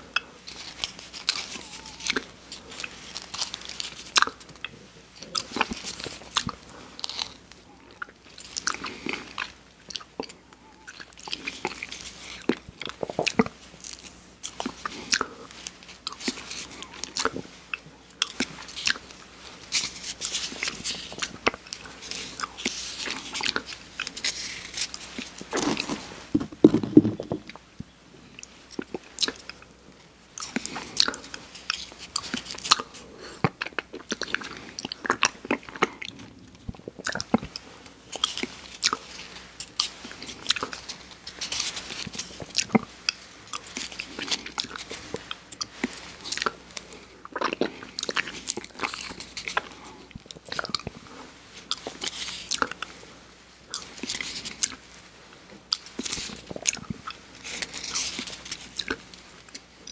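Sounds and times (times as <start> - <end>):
mouth eating ice cream cone: 0.0 - 26.4, 27.0 - 54.9.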